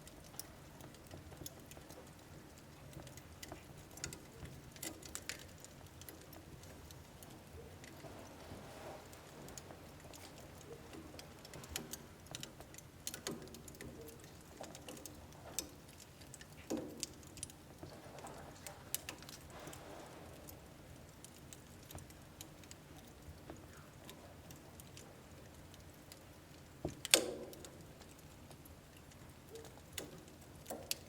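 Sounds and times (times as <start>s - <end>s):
wood crackling in stove: 0.0s - 31.0s.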